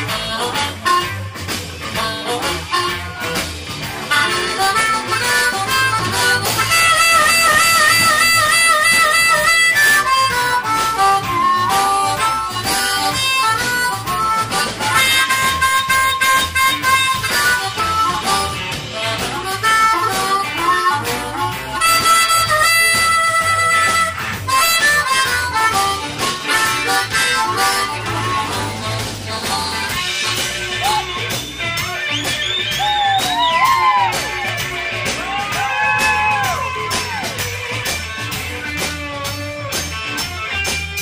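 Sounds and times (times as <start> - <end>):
amplified blues harmonica: 0.0 - 41.0
live band playing: 0.0 - 41.0.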